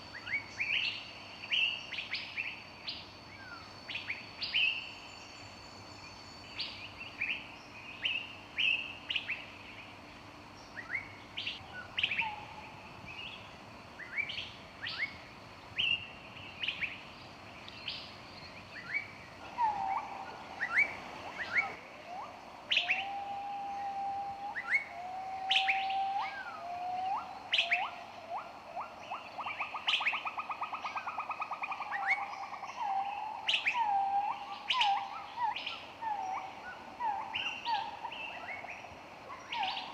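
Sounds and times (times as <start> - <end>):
lower whistled bird song: 0.0 - 9.9, 10.6 - 39.9
songbirds chirping: 0.0 - 39.9.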